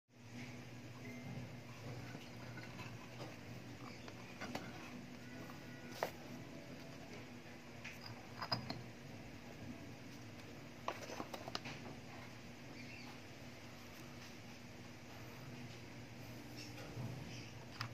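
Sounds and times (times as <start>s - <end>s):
quiet low hum: 0.1s - 17.9s.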